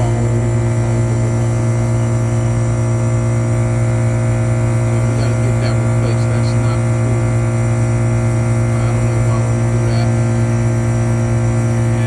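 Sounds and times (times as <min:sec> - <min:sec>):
compressor electrical hum: 0:00.0 - 0:12.0.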